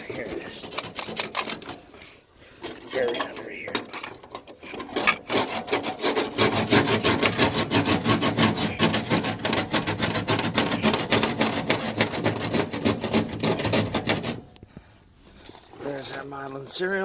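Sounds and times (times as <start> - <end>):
fast scraping and rubbing: 0.0 - 14.6.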